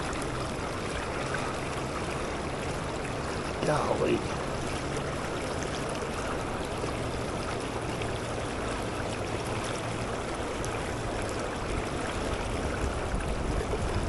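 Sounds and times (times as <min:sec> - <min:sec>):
fast-flowing creek water: 0:00.0 - 0:14.0.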